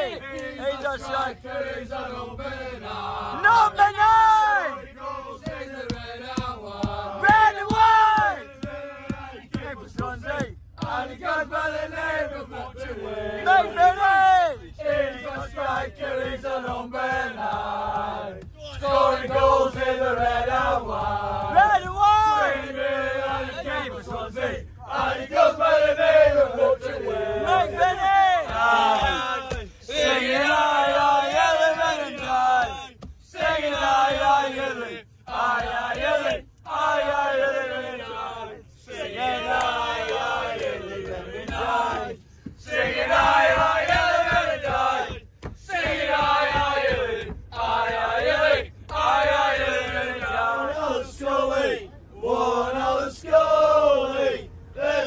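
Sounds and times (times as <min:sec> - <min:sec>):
men chanting in unison: 0:00.0 - 0:55.0.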